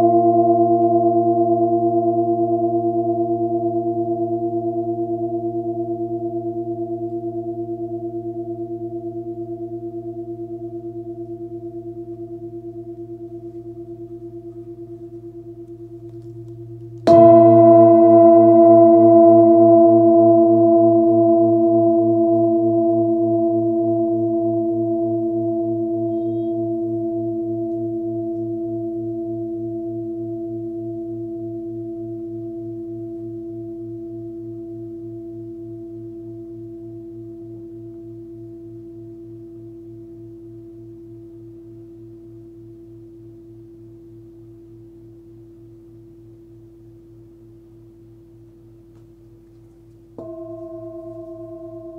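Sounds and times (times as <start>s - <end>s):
singing bowl ringing: 0.0s - 40.8s, 50.2s - 51.9s.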